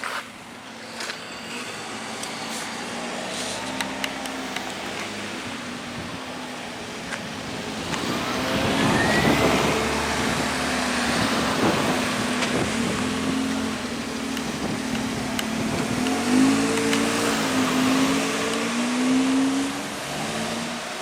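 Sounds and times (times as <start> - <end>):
diesel railcar engine humming: 0.0 - 18.6.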